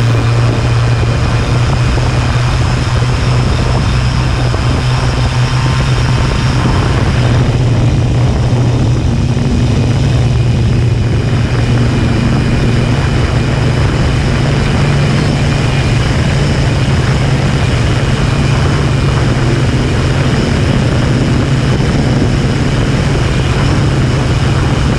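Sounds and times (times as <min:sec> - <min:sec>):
quadcopter motors buzzing: 0:00.0 - 0:24.9.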